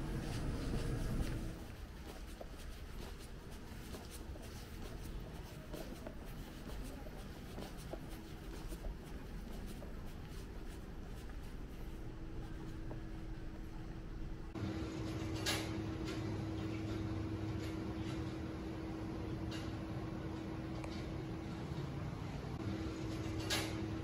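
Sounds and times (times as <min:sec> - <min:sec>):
low street hum: 0:00.0 - 0:24.0.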